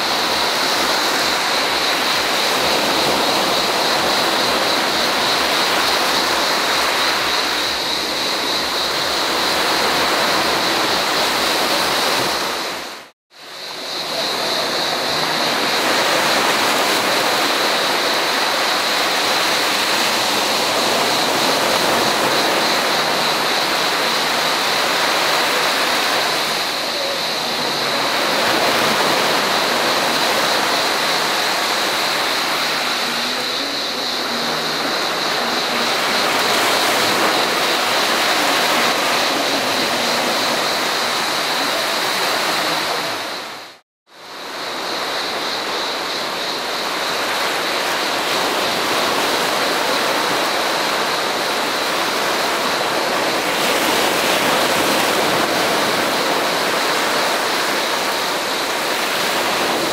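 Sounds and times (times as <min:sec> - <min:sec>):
sea waves washing on shore: 0:00.0 - 0:59.9.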